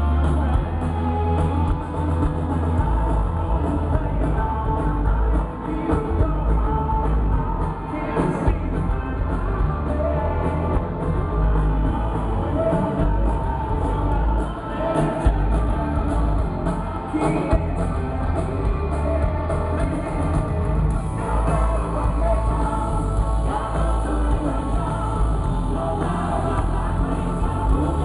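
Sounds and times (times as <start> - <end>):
drums: 0.0 - 28.0
electric guitars: 0.0 - 28.0
person singing: 0.0 - 28.0.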